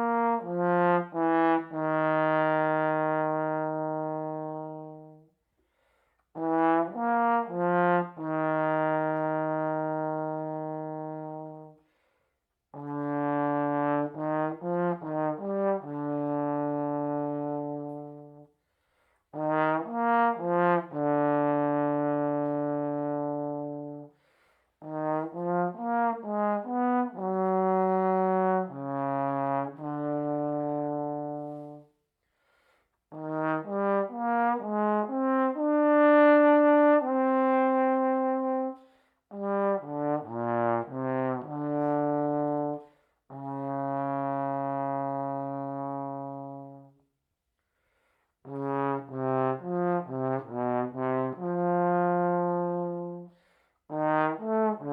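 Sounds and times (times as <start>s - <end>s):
solo trombone melody: 0.0s - 5.4s, 6.3s - 11.8s, 12.7s - 18.6s, 19.3s - 32.0s, 33.1s - 47.2s, 48.4s - 54.9s.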